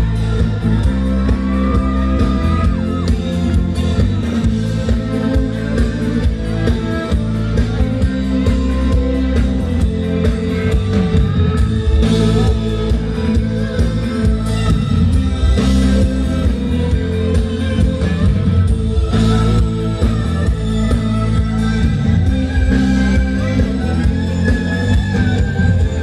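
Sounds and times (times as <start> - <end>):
bass: 0.0 - 26.0
drum kit: 0.0 - 26.0
electric guitars: 0.0 - 26.0.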